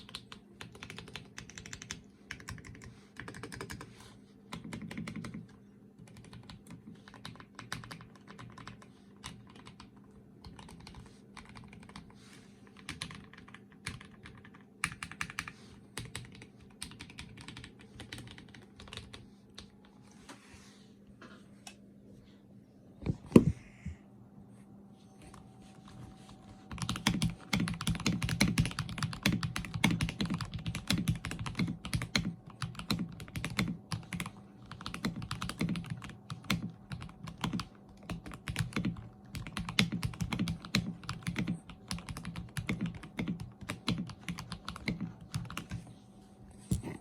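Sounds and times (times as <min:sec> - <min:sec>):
mechanical keyboard typing: 0:00.0 - 0:03.9, 0:04.5 - 0:12.1, 0:12.8 - 0:19.7, 0:26.7 - 0:45.8.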